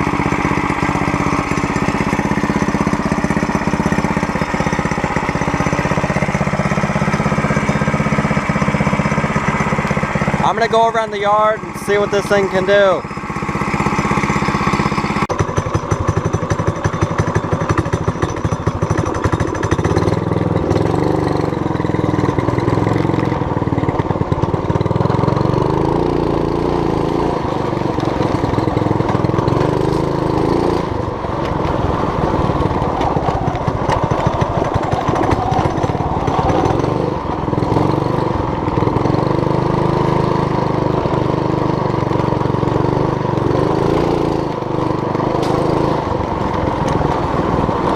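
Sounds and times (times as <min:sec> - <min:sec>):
mini bike engine revving: 0:00.0 - 0:47.9.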